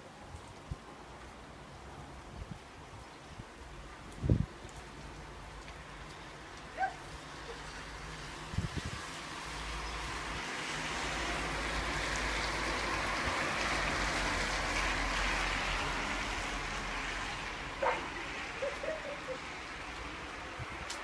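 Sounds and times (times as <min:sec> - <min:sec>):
rain and storm roar: 0:00.0 - 0:21.0.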